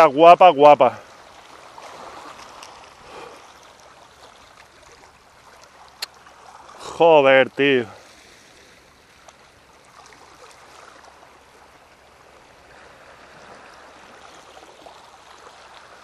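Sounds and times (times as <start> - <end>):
seawater lapping at shore: 0.0 - 16.0.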